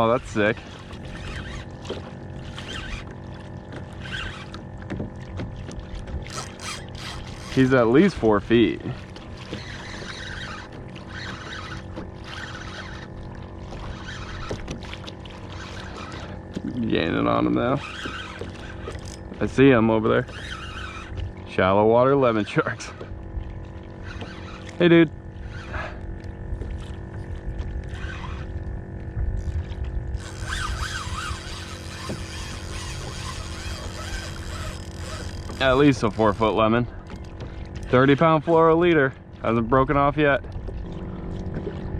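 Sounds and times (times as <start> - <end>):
wind rumbling on microphone: 0.0 - 14.9, 15.8 - 41.9
water swishing along hull: 0.0 - 41.9.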